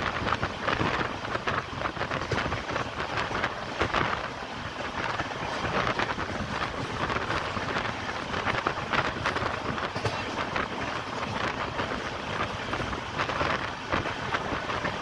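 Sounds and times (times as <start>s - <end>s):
train wheels clattering on rails: 0.0s - 15.0s
wind noise on microphone: 0.0s - 15.0s.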